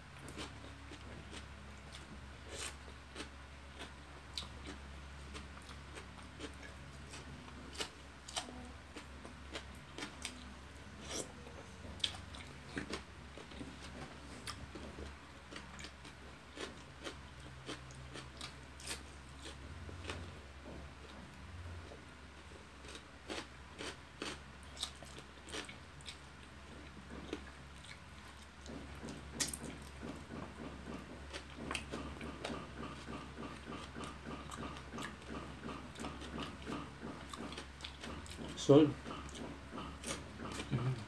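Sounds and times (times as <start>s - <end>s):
wet chewing: 0.2s - 20.3s, 22.8s - 41.0s.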